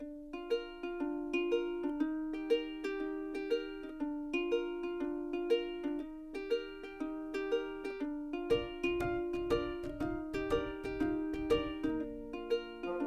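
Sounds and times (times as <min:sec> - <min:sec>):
upbeat plucked string music: 0:00.0 - 0:13.0.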